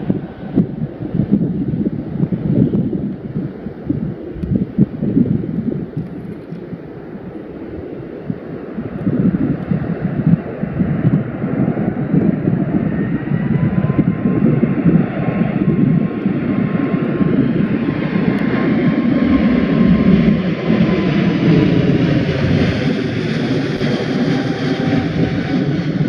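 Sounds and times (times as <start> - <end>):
jet engines low rumble: 0.0 - 26.0.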